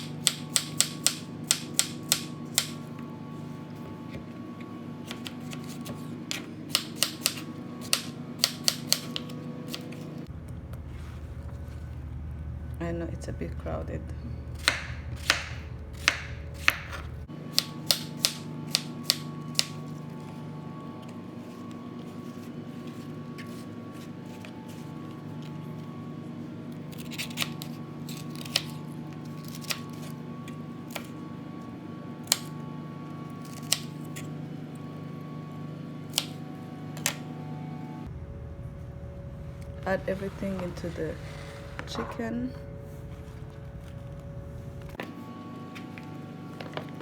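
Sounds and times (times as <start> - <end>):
low hum with faint tones: 0.0 - 47.0.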